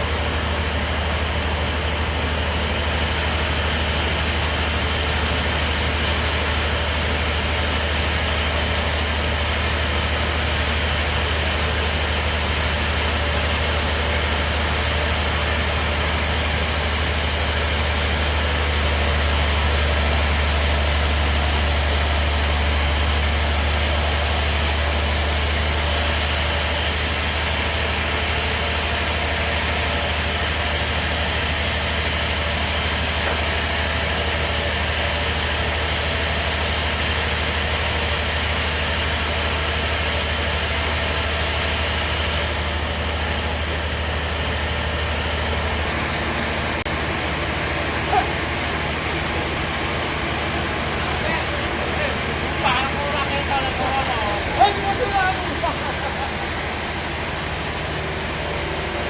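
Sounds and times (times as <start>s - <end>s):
bandsaw sawmill running: 0.0s - 59.0s.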